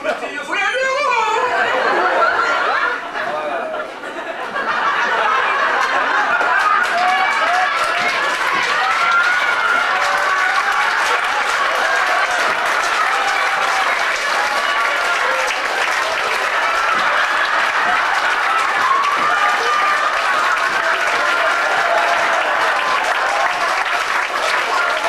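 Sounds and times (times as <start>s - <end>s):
audience applauding: 4.3s - 25.0s.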